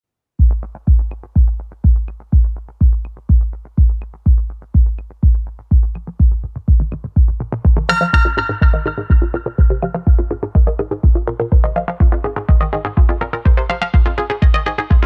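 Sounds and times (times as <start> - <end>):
kick drum: 0.4 - 15.0
ticking hi-hats: 0.4 - 15.0.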